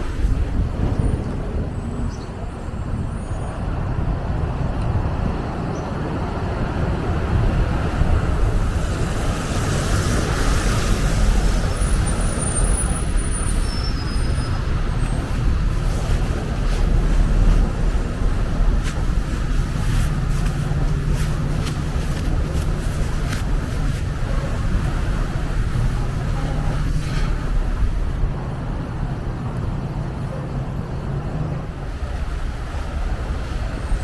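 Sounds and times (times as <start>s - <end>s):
low rumble of traffic: 0.0s - 34.0s.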